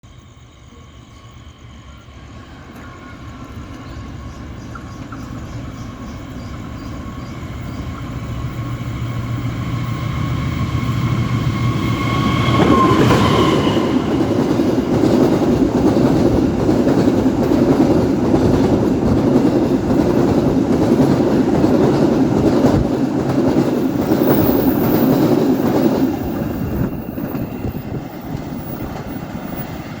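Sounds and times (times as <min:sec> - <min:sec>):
train passing: 0:00.0 - 0:30.0
train cars rumbling and clacking: 0:01.2 - 0:30.0.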